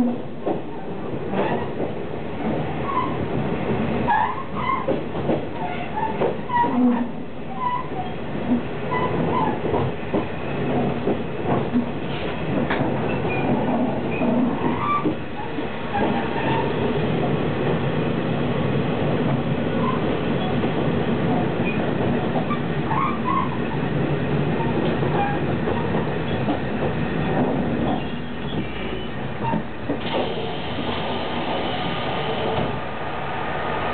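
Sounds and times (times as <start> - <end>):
rail clicks: 0.0 - 33.9
train wheels and engine rumbling: 0.0 - 33.9.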